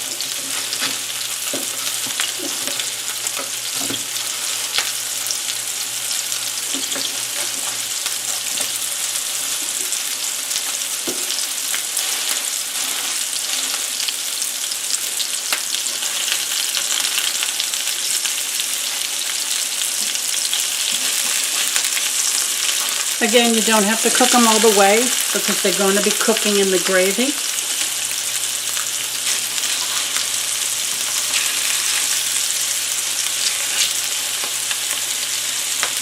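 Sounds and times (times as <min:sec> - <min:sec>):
meat patties sizzling in a pan: 0:00.0 - 0:36.0.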